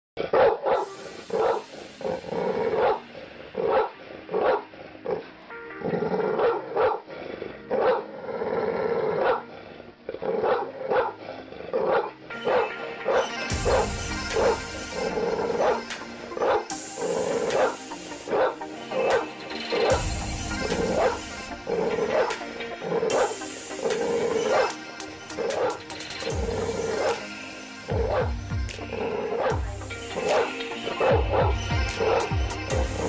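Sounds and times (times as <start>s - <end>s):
dog barking: 0.2s - 1.6s, 2.5s - 5.3s, 6.2s - 8.1s, 9.0s - 9.5s, 10.3s - 32.4s
background music: 0.2s - 33.0s.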